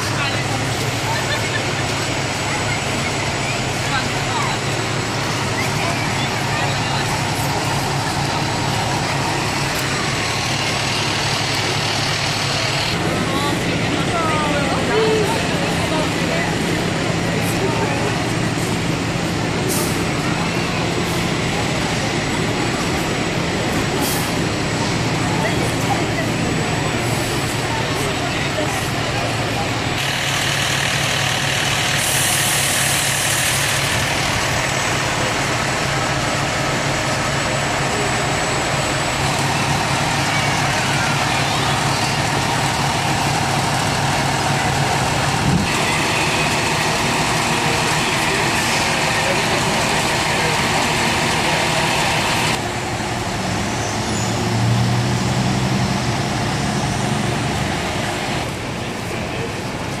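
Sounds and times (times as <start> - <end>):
diesel truck engine idling: 0.0 - 60.0.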